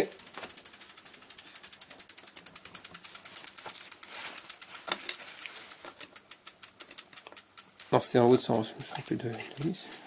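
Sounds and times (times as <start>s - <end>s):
bicycle freewheel ticking: 0.0s - 10.0s.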